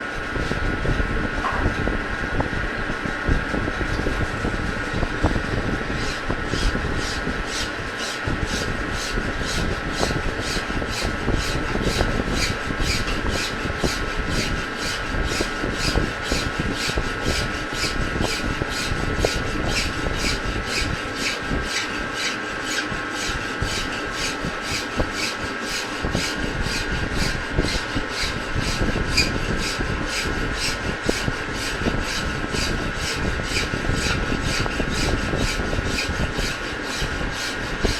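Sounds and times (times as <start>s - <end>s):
metal lathe whining: 0.0s - 37.9s
rhythmic rasping scrape: 6.0s - 37.9s.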